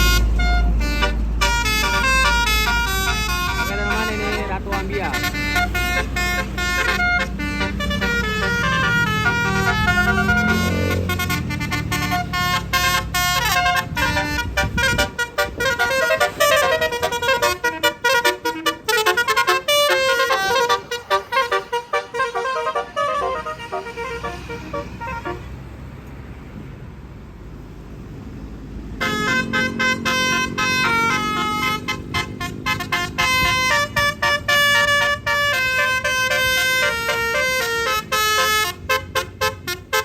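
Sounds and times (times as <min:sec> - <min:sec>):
bus horn playing melody: 0:00.0 - 0:26.0, 0:28.9 - 0:40.0
low engine rumble: 0:00.0 - 0:40.0.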